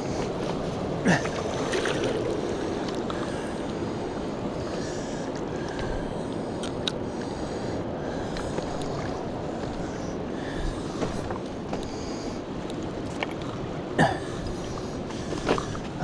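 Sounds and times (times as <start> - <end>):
rushing river water: 0.0 - 16.0.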